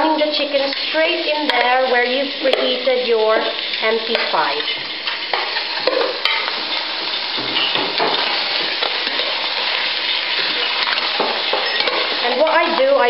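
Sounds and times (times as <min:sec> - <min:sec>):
chicken pieces sizzling: 0:00.0 - 0:13.0
metal spoon scraping a pan: 0:00.3 - 0:12.9.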